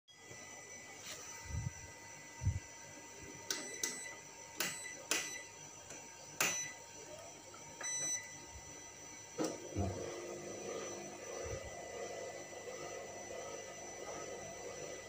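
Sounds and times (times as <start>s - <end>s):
faint high whine: 0.1s - 15.0s.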